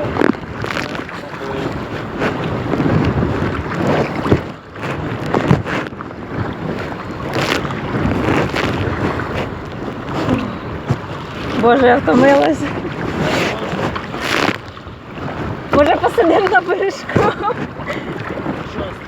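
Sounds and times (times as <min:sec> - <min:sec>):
choppy water: 0:00.0 - 0:19.0
paddle splashes: 0:00.0 - 0:19.0
wind buffeting microphone: 0:00.0 - 0:19.0.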